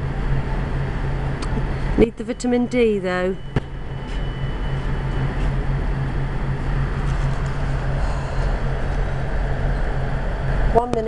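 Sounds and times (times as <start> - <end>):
train equipment humming: 0.0 - 11.0.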